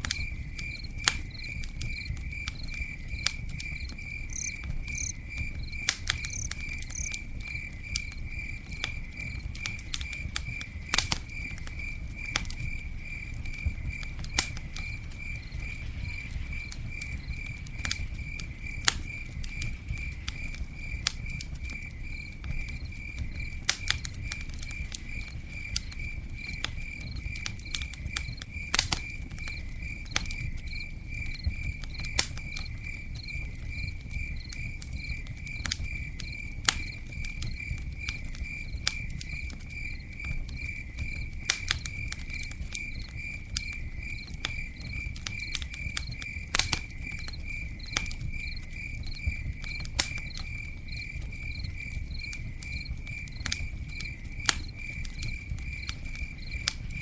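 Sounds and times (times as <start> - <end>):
campfire crackling: 0.0 - 57.0
cricket chirping: 0.0 - 57.0.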